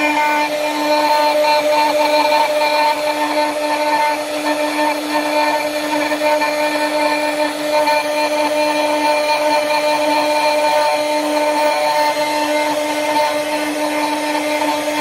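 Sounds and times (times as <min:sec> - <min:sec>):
bit rasping wood: 0:00.0 - 0:15.0
router spindle whine: 0:00.0 - 0:15.0.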